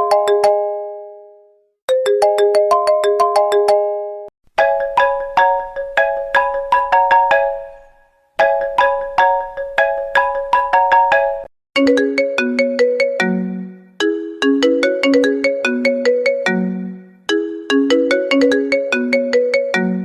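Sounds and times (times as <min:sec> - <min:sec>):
high chiming ringtone melody: 0:00.0 - 0:20.0
lower ringtone melody: 0:00.0 - 0:20.0.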